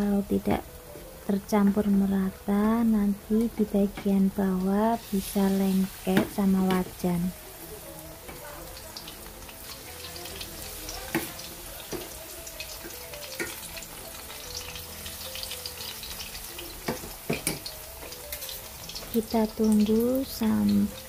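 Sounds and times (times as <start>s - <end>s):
food deep-frying in oil: 0.0s - 21.0s.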